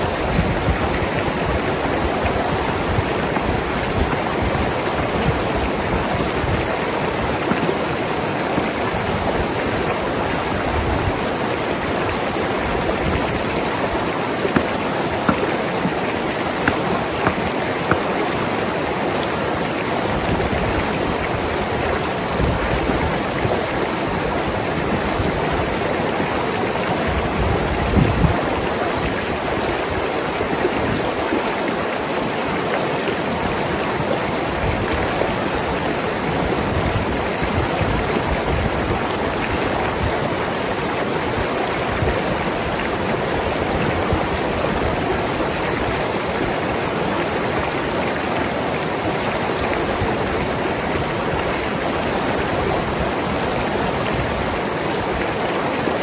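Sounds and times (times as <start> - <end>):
river flowing over rocks: 0.0 - 56.0
water splashes: 0.0 - 56.0.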